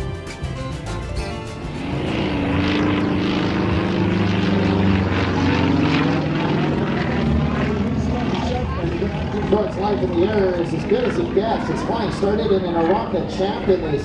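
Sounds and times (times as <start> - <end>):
propeller plane engine roaring: 0.0 - 14.0.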